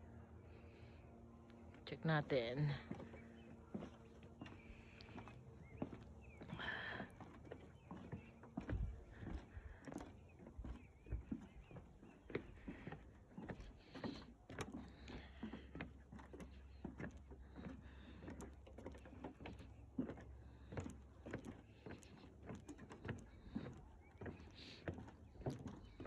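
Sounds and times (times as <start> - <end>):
footsteps on wooden boards: 2.6 - 26.0.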